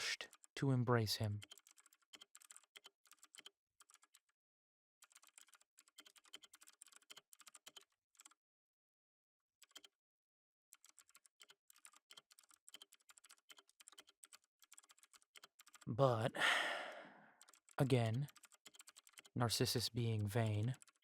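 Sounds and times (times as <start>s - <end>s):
faint computer keyboard typing: 0.1s - 4.3s, 5.0s - 8.4s, 9.6s - 10.0s, 10.7s - 16.2s, 17.4s - 21.0s.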